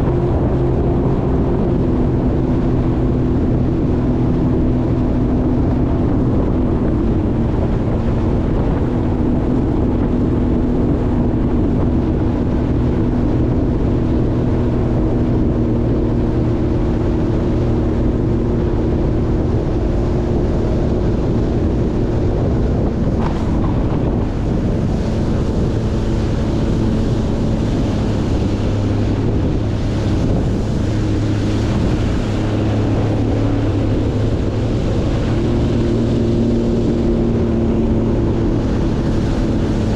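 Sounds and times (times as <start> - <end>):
jet ski engine running: 0.0 - 39.9
wind on microphone: 0.0 - 39.9.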